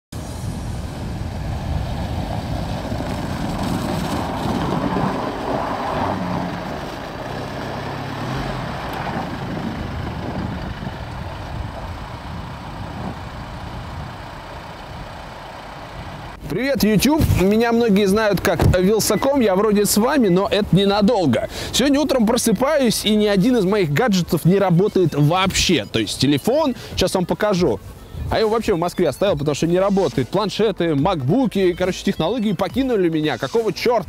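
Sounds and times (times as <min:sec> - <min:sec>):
car driving on snow: 0:00.2 - 0:34.0.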